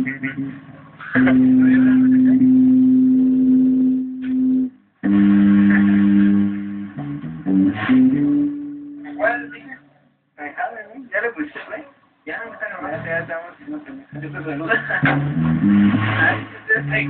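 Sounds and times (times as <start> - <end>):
electric guitar sustained notes: 0.0 - 9.8, 12.9 - 17.0.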